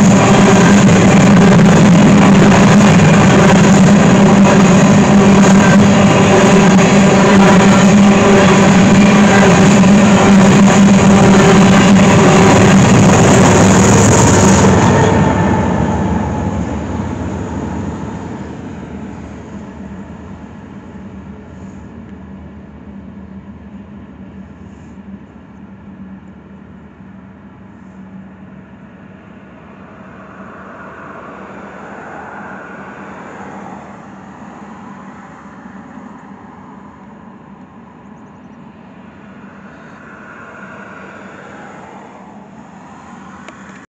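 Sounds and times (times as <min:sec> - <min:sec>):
diesel locomotive engine drone: 0:00.0 - 0:43.9
train wheels noise: 0:00.0 - 0:43.9.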